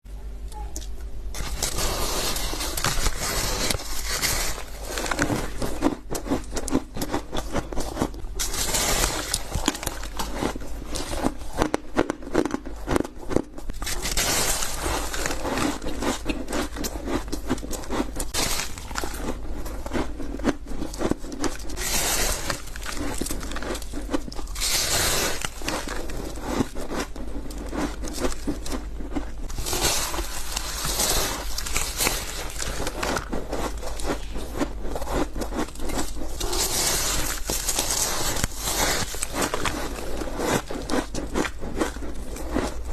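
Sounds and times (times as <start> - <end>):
ice being chewed: 0.8 - 42.9.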